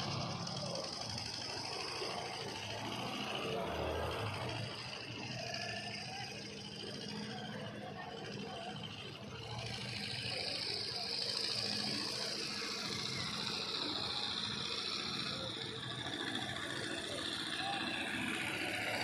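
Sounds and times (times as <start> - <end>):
distant engine running: 0.0 - 19.0.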